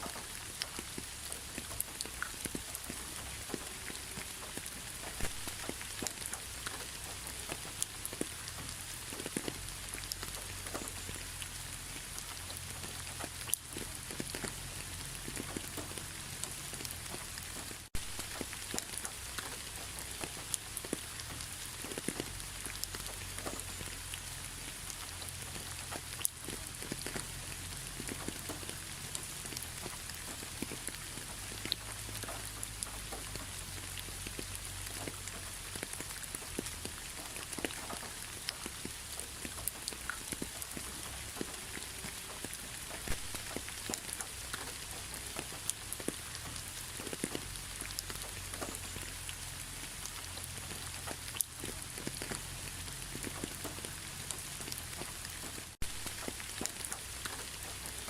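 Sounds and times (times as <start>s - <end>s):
rain with ticking drops: 0.0s - 58.0s.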